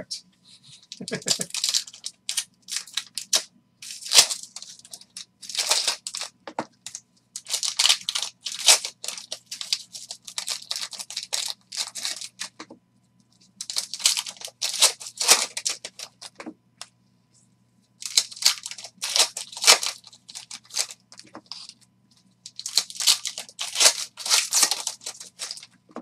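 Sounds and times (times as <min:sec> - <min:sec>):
foil pack crinkling and tearing: 0:00.9 - 0:12.6, 0:13.6 - 0:16.4, 0:18.0 - 0:21.8, 0:22.5 - 0:25.7.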